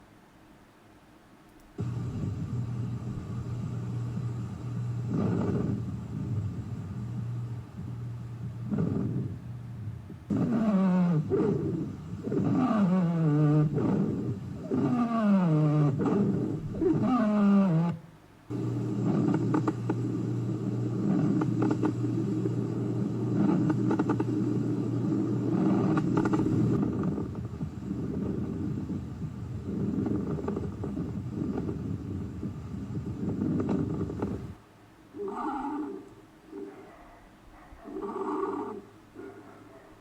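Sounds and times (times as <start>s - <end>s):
musical lung tones: 1.8s - 34.6s.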